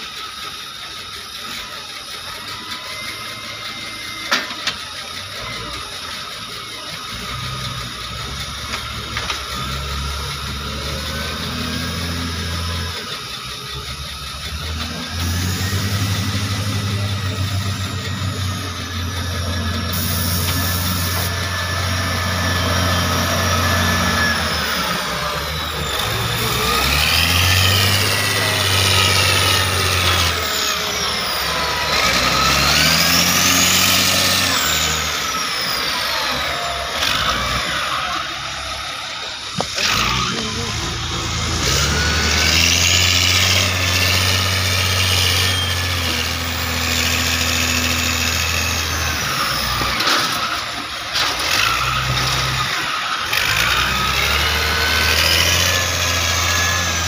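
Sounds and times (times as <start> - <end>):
diesel engine rumble revving: 0.0 - 57.0.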